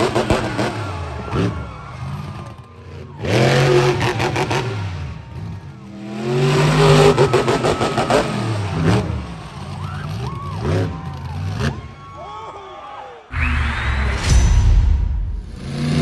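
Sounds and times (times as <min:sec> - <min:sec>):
truck engine revving: 0:00.0 - 0:11.9, 0:15.0 - 0:16.0.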